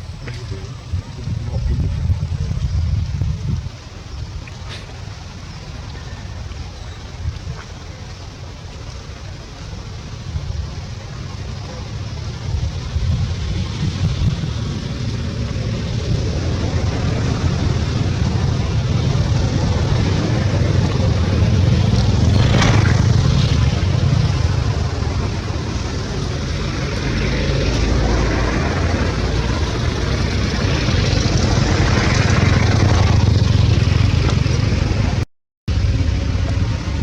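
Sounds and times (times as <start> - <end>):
continuous low rumble: 0.0 - 37.0.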